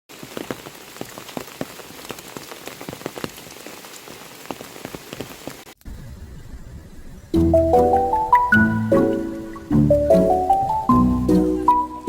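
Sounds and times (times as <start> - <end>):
rain falling: 0.1 - 6.0, 6.7 - 12.0.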